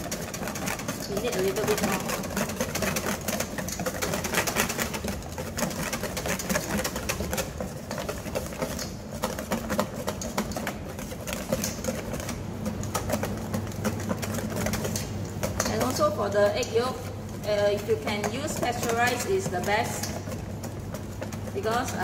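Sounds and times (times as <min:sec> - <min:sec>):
wire whisk beating in steel bowl: 0:00.0 - 0:22.0.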